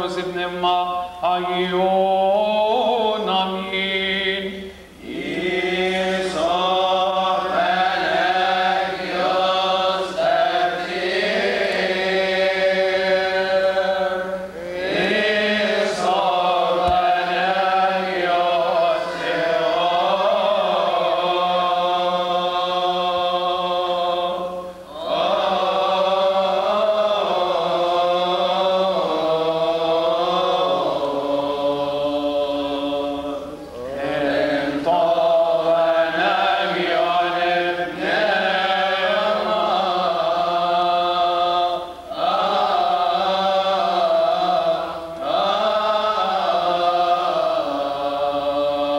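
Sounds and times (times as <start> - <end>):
voices chanting slow melody: 0.0 - 48.9.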